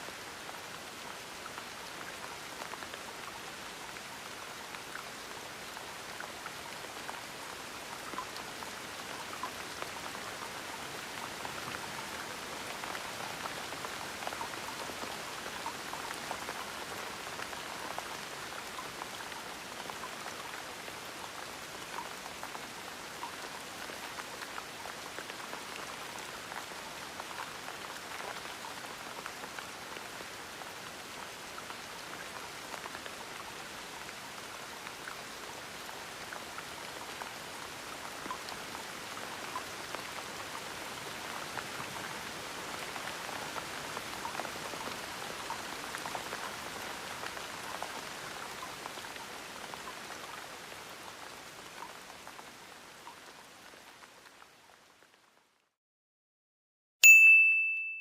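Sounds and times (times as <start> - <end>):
gentle rain falling: 0.0 - 55.8.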